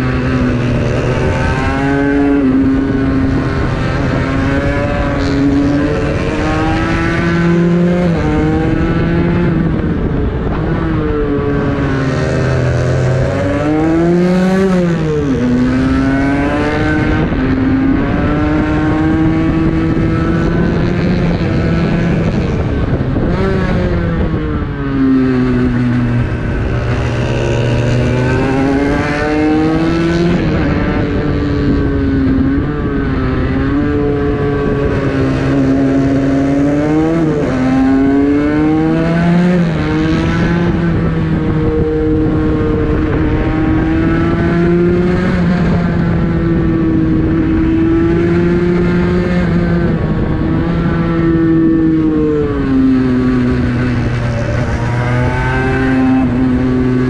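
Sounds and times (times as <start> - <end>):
two-stroke motorcycle engine revving: 0.0 - 57.0
wind rushing over microphone: 0.0 - 57.0.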